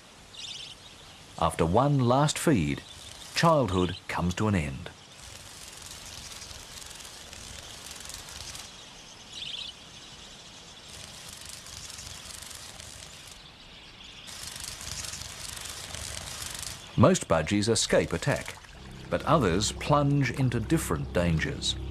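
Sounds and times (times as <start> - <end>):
steady outdoor hiss: 0.0 - 21.9.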